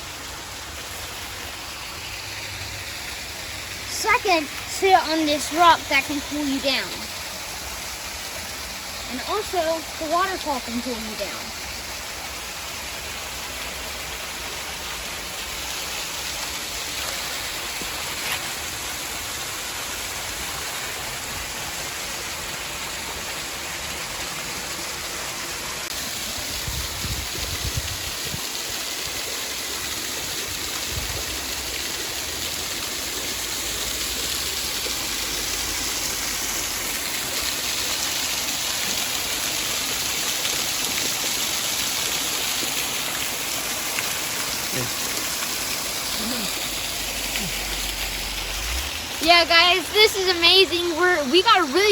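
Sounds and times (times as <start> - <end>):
waterfall rushing and splashing: 0.0 - 51.9.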